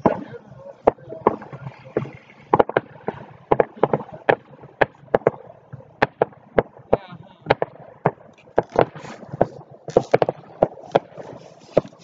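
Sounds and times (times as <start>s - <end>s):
fireworks cracking and popping: 0.0s - 12.0s.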